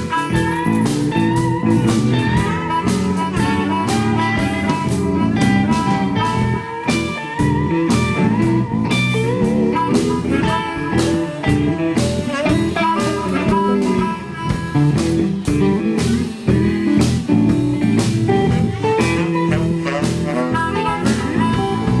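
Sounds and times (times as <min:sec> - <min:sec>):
bass and drums: 0:00.0 - 0:22.0
electric guitar lead: 0:00.0 - 0:22.0.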